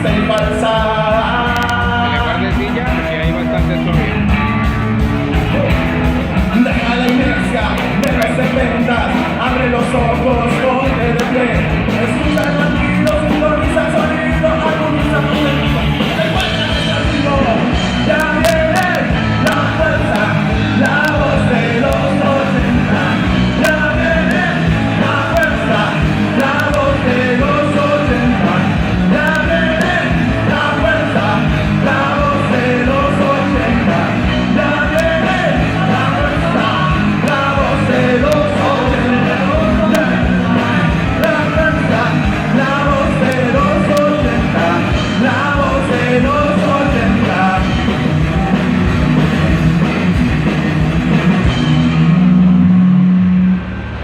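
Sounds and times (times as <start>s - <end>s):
person singing: 0.0s - 4.3s, 5.4s - 49.0s
rock band playing live: 0.0s - 54.0s.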